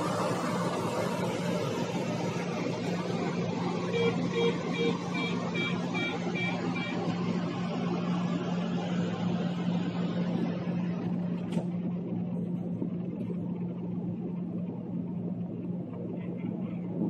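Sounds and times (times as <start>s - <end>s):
constant low hum: 0.0s - 17.0s
diesel railcar rumble: 0.0s - 17.0s.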